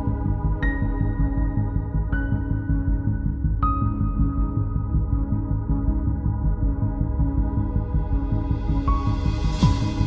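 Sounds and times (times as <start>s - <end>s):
ambient music with pulsing beat: 0.0s - 10.0s.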